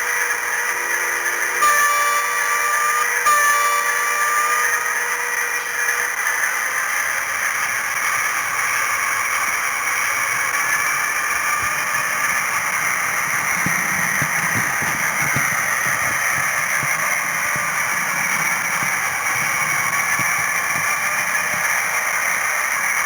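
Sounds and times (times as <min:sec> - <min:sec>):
model train hiss and whine: 0:00.0 - 0:23.0.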